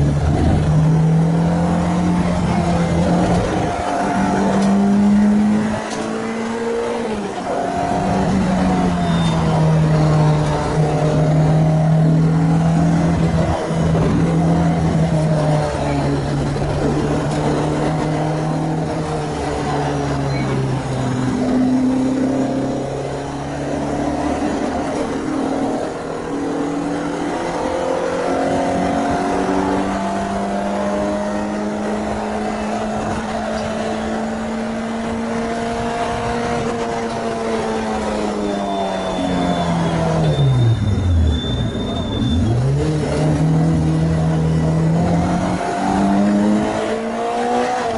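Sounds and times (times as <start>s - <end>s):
car engine at high revs: 0.0s - 47.9s.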